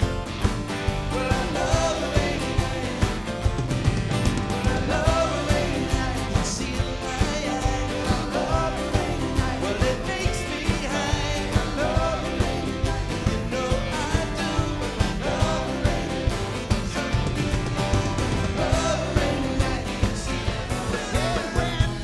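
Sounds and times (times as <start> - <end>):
bass guitar: 0.0 - 22.0
steady drum beat: 0.0 - 22.0
person singing: 0.9 - 3.6, 4.5 - 17.5, 18.2 - 22.0.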